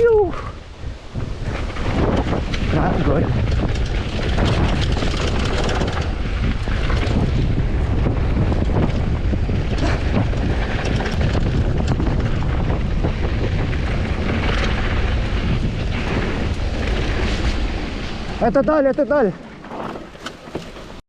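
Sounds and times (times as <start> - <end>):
wind buffeting microphone: 0.0 - 21.0
bike clattering on rough ground: 1.2 - 21.0.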